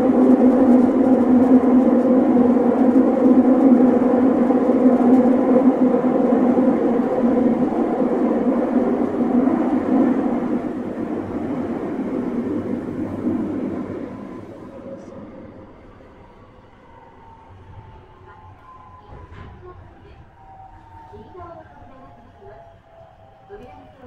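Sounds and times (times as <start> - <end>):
train rumbling in tunnel: 0.0 - 24.0.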